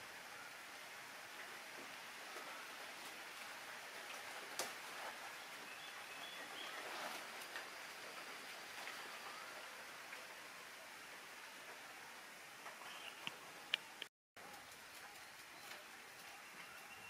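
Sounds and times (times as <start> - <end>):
light rain on foliage: 0.0 - 17.0.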